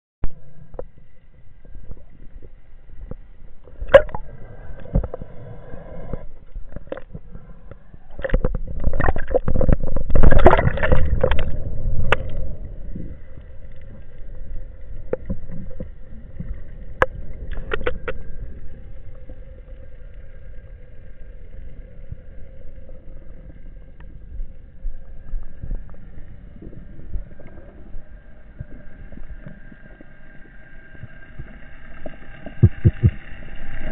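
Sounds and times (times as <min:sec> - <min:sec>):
faint steady hum: 0:00.2 - 0:33.9
water gurgling and rushing: 0:01.7 - 0:33.9.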